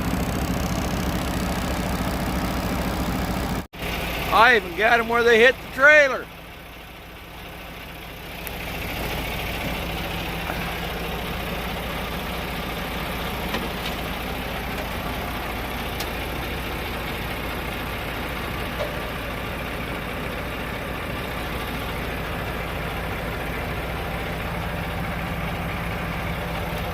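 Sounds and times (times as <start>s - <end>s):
truck diesel engine running: 0.0s - 26.9s.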